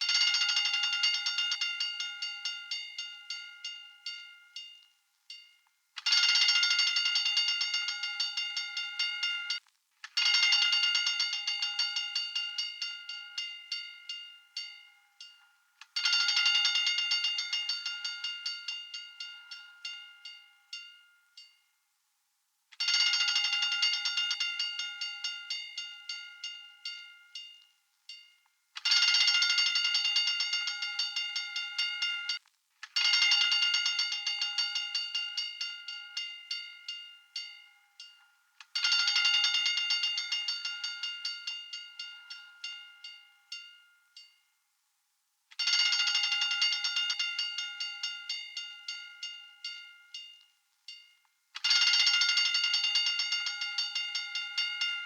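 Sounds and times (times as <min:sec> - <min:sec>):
hand-cranked fire alarm bell: 0:00.0 - 0:21.6, 0:22.8 - 0:44.4, 0:45.5 - 0:55.0.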